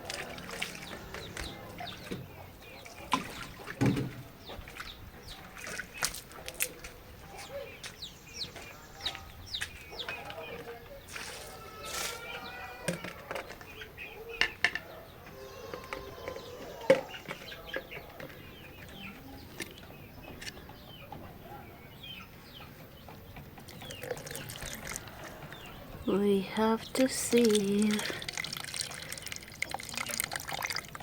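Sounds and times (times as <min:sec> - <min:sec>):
chickens clucking: 0:00.0 - 0:28.4.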